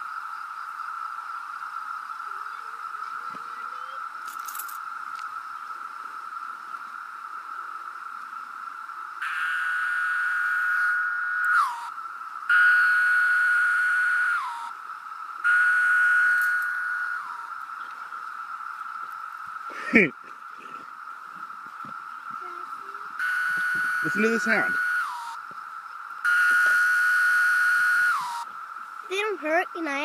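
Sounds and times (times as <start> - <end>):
cicada chorus drone: 0.0 - 30.0
nearby cicada calls: 0.0 - 30.0.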